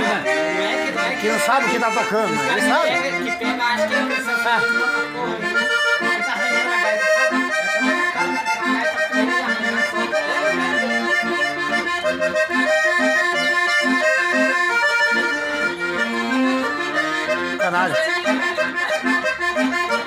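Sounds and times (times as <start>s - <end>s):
accordion dance tune: 0.0s - 20.0s.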